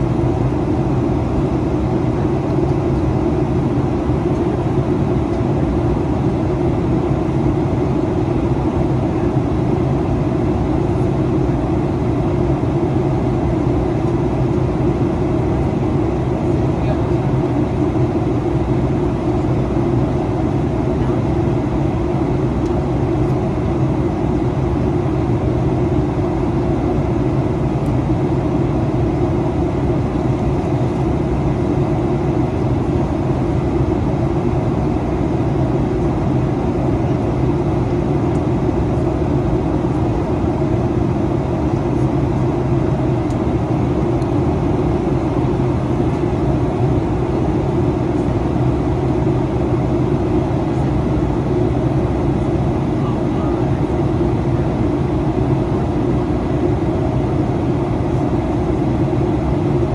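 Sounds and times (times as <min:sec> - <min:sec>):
air rushing along fuselage: 0:00.0 - 0:59.9
jet engines humming: 0:00.0 - 0:59.9.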